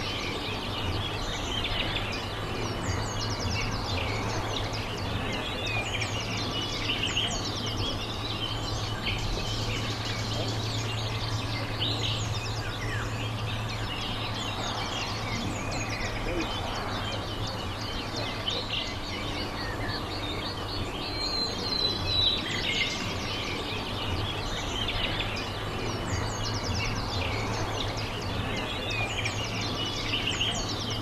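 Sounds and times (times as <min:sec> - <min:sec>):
small birds chirping: 0:00.0 - 0:31.0
steady low hum: 0:00.0 - 0:31.0.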